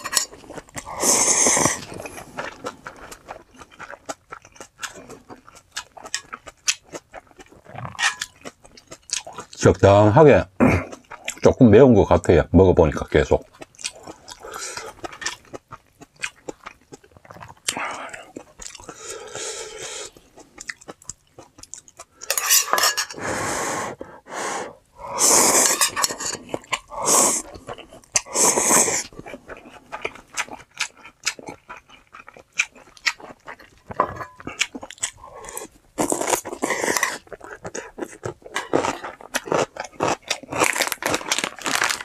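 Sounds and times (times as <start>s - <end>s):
chewing and crunching: 0.0s - 10.1s, 10.8s - 11.6s, 13.0s - 23.2s, 25.2s - 42.0s.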